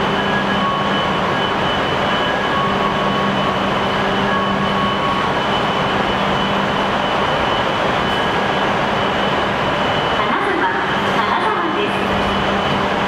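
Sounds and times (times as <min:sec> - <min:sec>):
train low hum with tones: 0:00.0 - 0:13.0.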